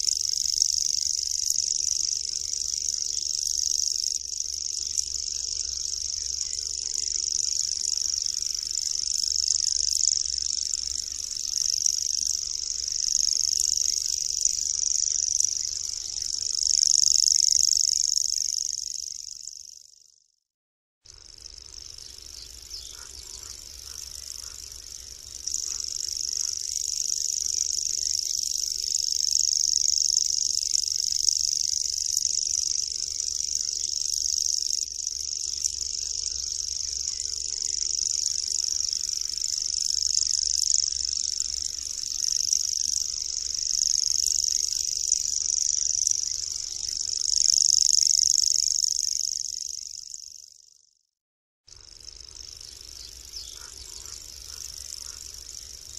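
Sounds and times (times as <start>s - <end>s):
bird reeling trill: 0.0s - 20.2s, 21.1s - 50.9s, 51.7s - 55.9s.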